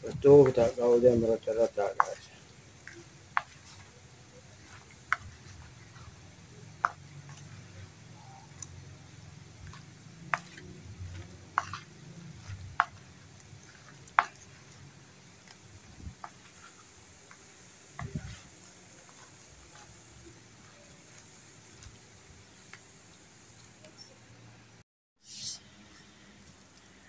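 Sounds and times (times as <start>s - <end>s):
wet mixture being stirred: 0.0s - 23.2s.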